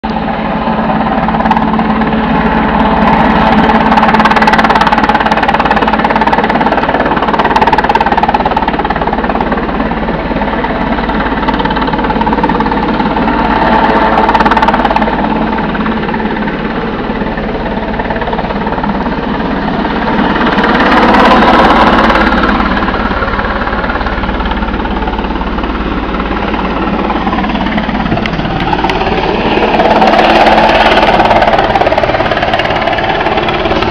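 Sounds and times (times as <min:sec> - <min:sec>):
helicopter rotor chop: 0:00.0 - 0:33.9.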